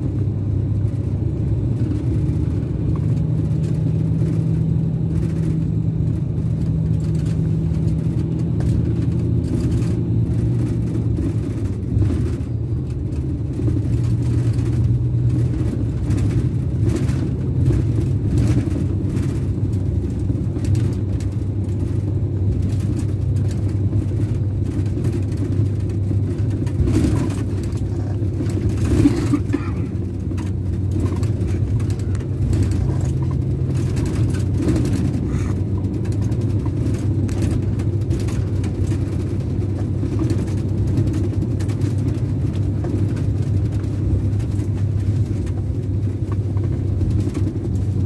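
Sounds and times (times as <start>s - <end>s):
diesel engine humming: 0.0s - 48.0s
tyre and road noise: 0.0s - 48.0s.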